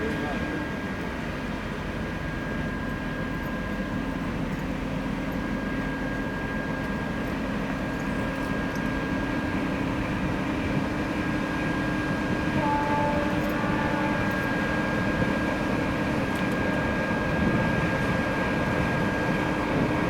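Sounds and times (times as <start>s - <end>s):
diesel locomotive idling: 0.0s - 20.0s.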